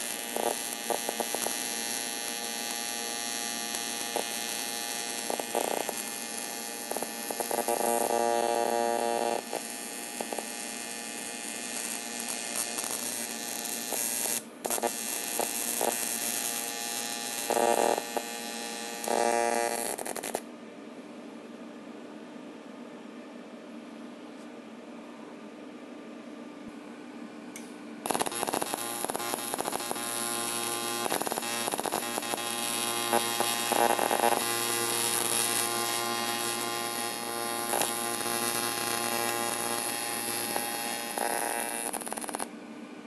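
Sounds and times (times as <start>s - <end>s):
welding arc buzzing: 0.0s - 20.4s, 28.0s - 42.5s.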